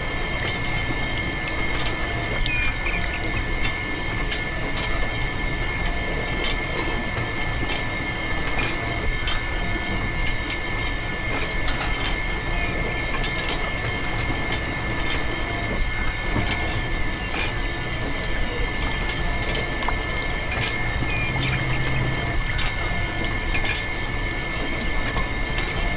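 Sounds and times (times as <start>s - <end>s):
rattling hum: 0.0s - 25.9s.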